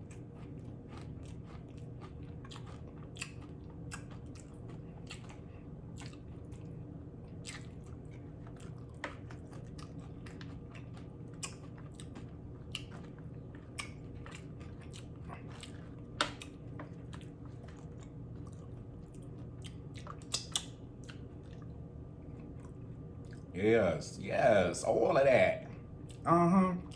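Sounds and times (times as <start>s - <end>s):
chewing crunchy chips: 0.0s - 23.5s, 25.9s - 26.9s.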